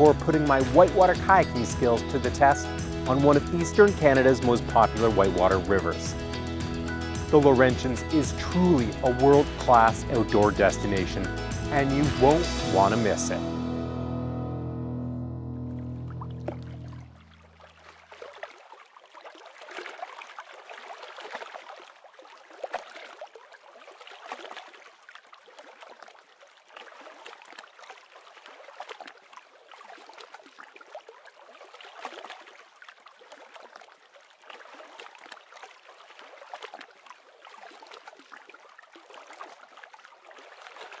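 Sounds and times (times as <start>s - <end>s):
water lapping and gurgling: 0.0s - 13.3s, 15.8s - 41.0s.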